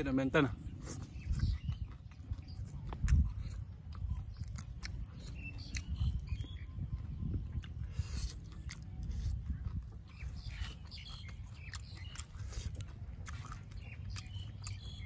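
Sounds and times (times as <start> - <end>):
chewing crunchy leafy greens: 0.0 - 15.0.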